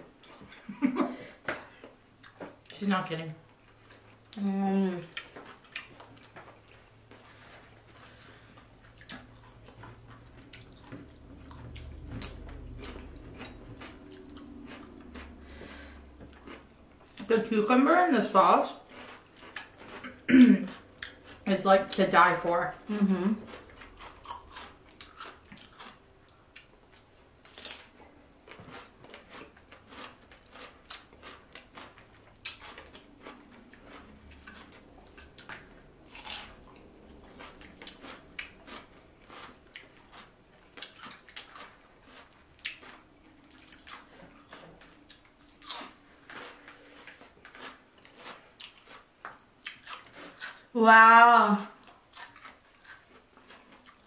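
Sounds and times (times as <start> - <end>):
chewing and biting food: 0.0 - 2.8, 5.0 - 17.4, 18.7 - 22.0, 22.8 - 50.7, 51.7 - 54.0.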